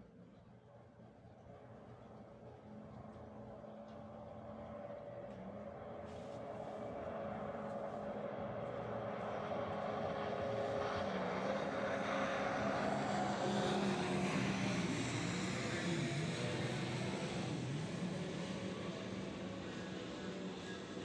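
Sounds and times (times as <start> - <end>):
engine droning: 3.1 - 21.0.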